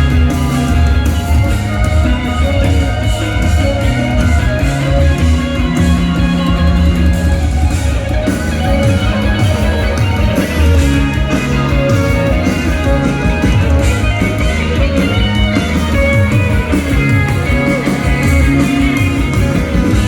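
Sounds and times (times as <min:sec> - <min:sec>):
bass guitar: 0:00.0 - 0:20.0
drums: 0:00.0 - 0:20.0
electric guitar solo: 0:00.0 - 0:20.0.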